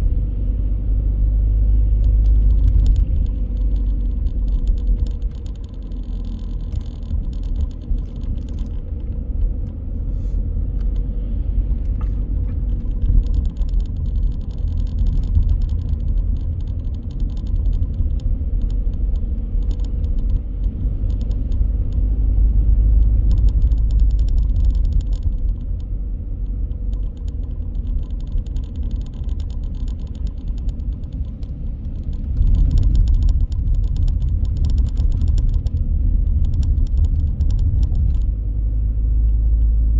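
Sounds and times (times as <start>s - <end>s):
vehicle engine and road rumble: 0.0s - 39.9s
light rattles: 1.9s - 38.4s.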